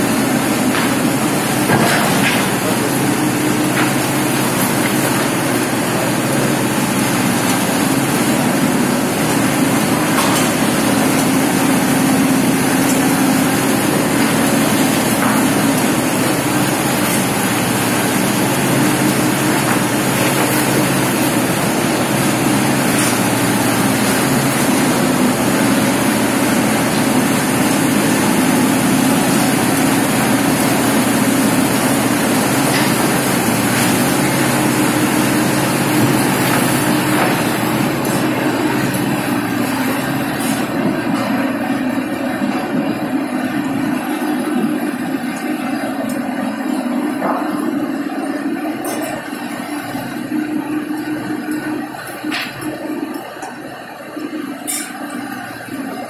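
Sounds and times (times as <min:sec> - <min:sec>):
construction machinery engine humming: 0:00.0 - 0:56.0.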